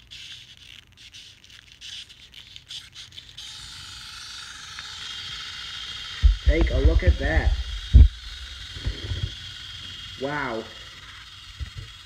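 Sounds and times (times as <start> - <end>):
toy rotor whirring: 0.0 - 12.0.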